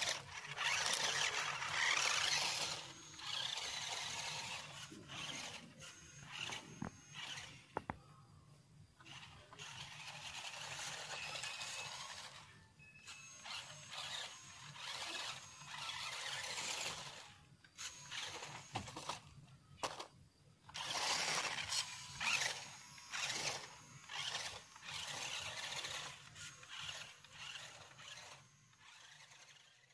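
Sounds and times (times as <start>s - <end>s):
toy truck electric motor whirring: 0.0s - 8.2s, 9.0s - 29.9s.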